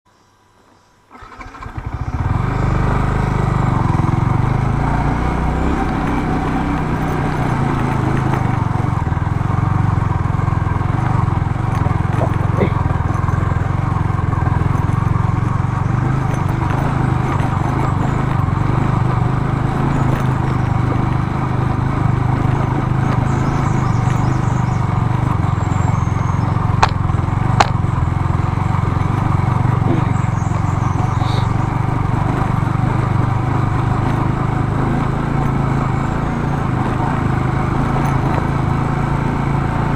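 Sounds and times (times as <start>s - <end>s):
motorcycle engine running: 1.1s - 39.9s.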